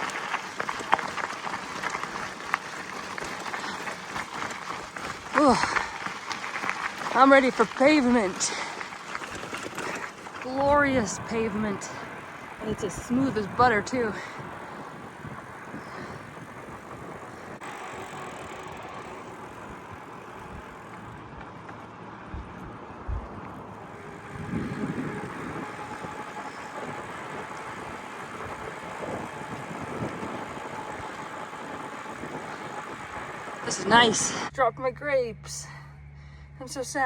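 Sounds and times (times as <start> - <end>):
wind and tyre noise: 0.0 - 35.2.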